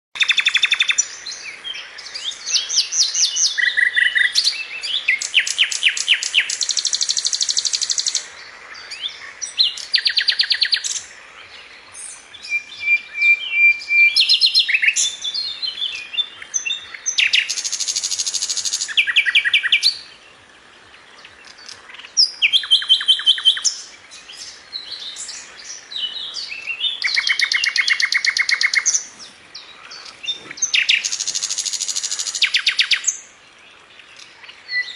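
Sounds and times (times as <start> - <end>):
songbird singing trills: 0.2 - 34.9.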